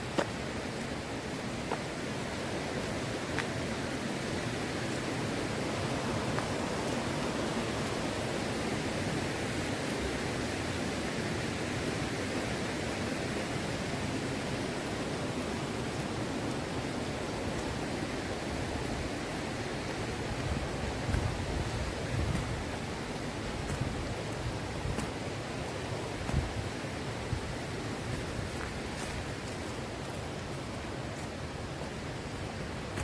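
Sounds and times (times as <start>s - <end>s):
mountain stream flowing: 0.0s - 33.0s.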